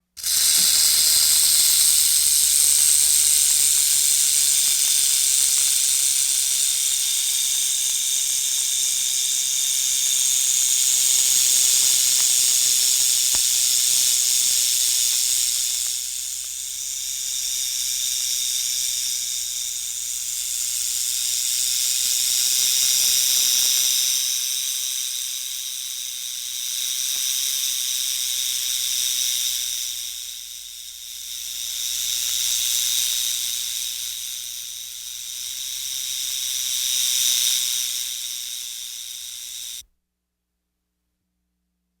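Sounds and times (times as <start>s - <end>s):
rattlesnake tail rattle: 0.0s - 39.8s.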